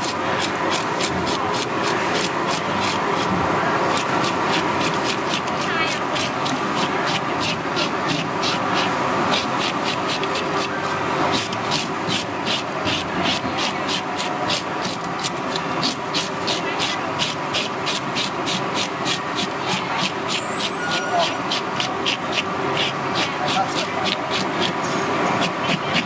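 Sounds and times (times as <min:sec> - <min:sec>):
rapid scraping strokes: 0:00.0 - 0:26.0.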